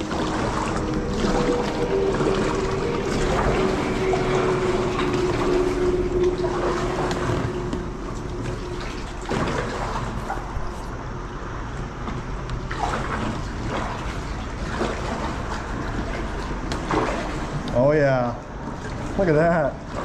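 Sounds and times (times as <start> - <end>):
paddle splashes: 0.0 - 11.0, 11.9 - 20.0
water running and splashing: 0.0 - 11.0, 11.9 - 20.0.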